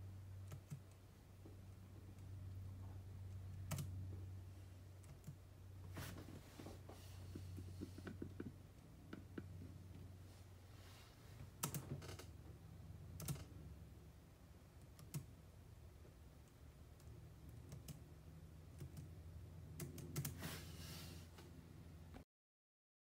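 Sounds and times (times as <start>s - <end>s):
steady low hum: 0.0s - 22.2s.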